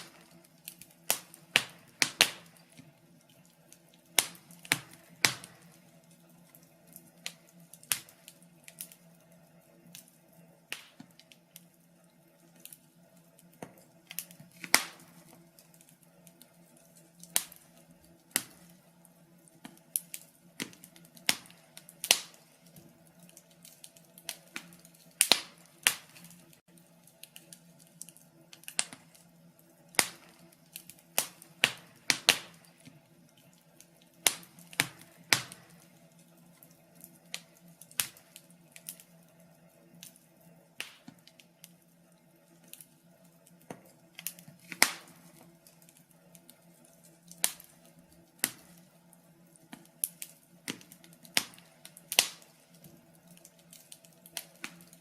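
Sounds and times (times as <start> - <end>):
faint steady low hum: 0.0 - 55.0
wood fire crackling: 0.0 - 55.0.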